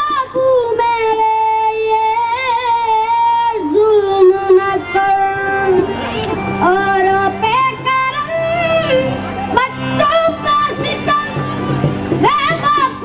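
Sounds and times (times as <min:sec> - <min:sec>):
woman singing slow song: 0:00.0 - 0:06.0, 0:06.6 - 0:11.6, 0:12.2 - 0:13.0.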